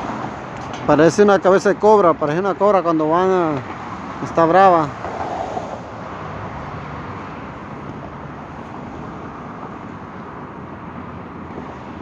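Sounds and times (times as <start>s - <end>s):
low traffic hum: 0.0s - 12.0s
passing cars rushing: 0.0s - 12.0s.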